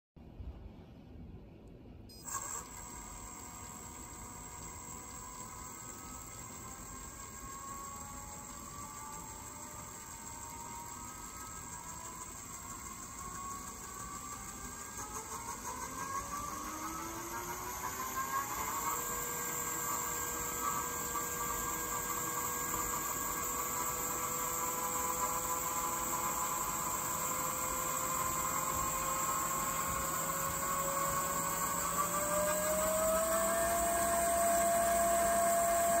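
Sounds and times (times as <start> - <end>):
electric motor whine: 2.1 - 36.0.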